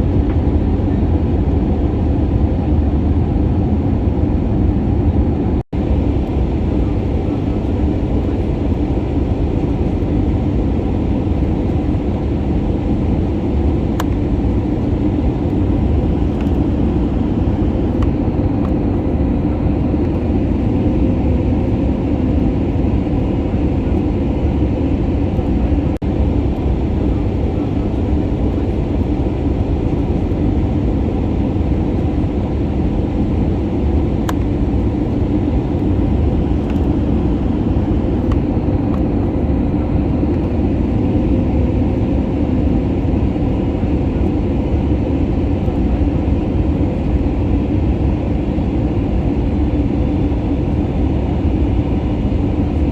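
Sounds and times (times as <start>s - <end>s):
airplane cabin drone: 0.0s - 52.9s.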